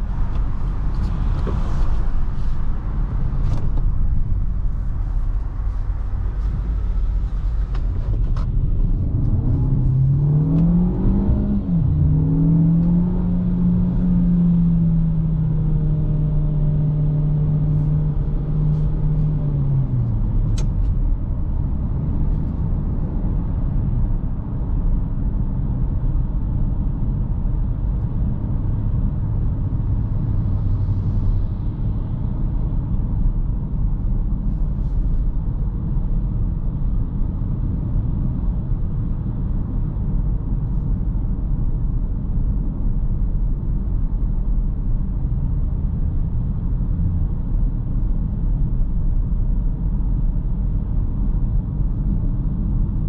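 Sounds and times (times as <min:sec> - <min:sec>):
road and tyre noise: 0:00.0 - 0:53.0.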